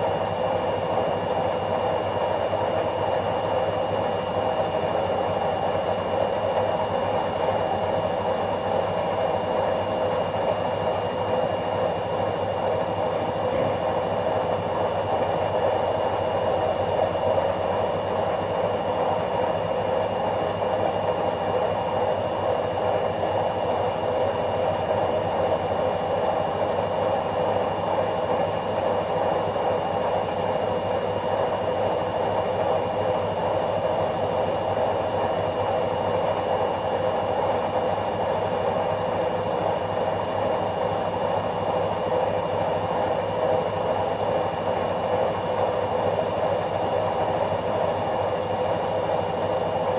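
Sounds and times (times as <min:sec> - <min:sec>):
washing machine running: 0:00.0 - 0:49.9.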